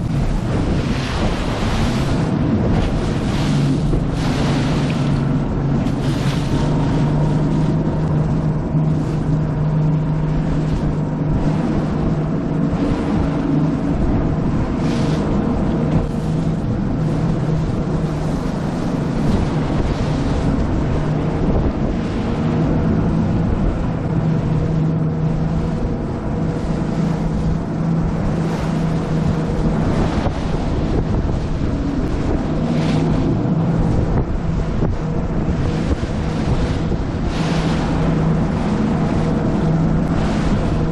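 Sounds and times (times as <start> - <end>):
outboard motor droning: 0.0 - 40.9
water slapping at hull: 0.0 - 40.9
wind noise on microphone: 0.0 - 40.9.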